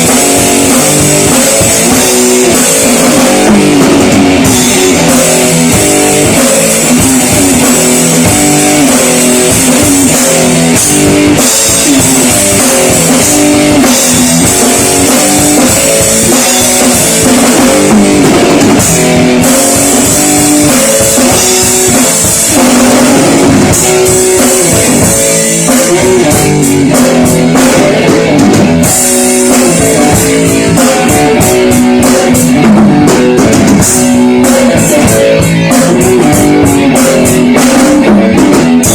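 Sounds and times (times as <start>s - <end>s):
bass guitar: 0.0s - 38.9s
drum kit with crashing cymbals: 0.0s - 38.9s
electric guitar riffs: 0.0s - 38.9s.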